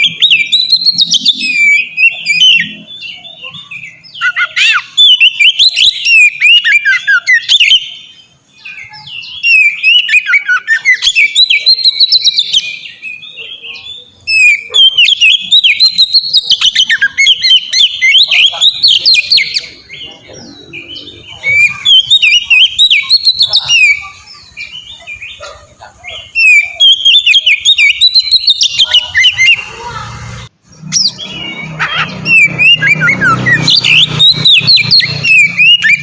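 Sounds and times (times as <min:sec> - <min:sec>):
songbird singing: 0:00.0 - 0:36.0.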